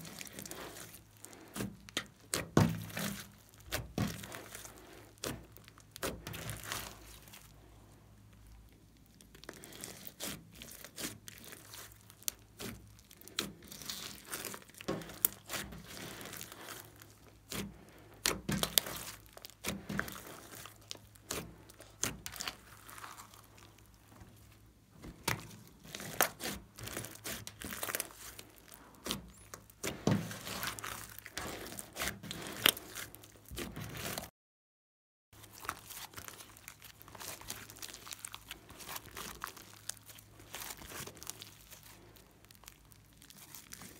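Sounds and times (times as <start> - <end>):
beads crackling and popping: 0.0 - 34.3, 35.4 - 43.9
slime squelching: 0.0 - 34.3, 35.4 - 43.9.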